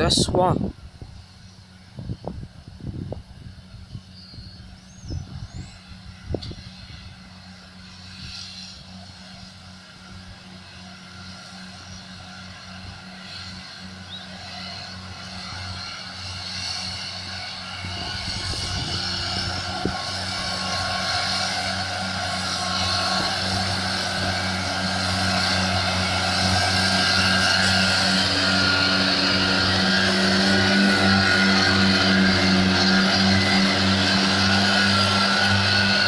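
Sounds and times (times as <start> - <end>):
tractor and mower droning: 0.0 - 36.0.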